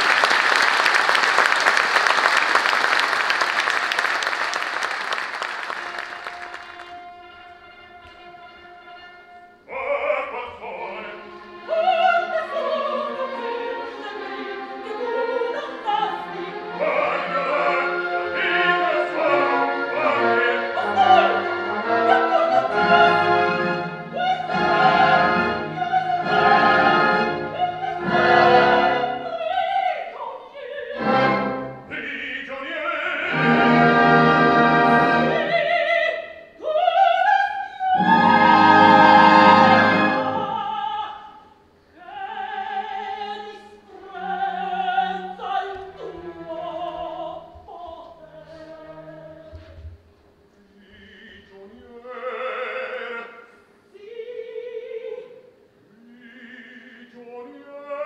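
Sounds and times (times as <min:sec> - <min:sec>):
orchestra: 0:00.0 - 0:58.0
operatic duet singing: 0:05.8 - 0:49.8, 0:50.6 - 0:58.0.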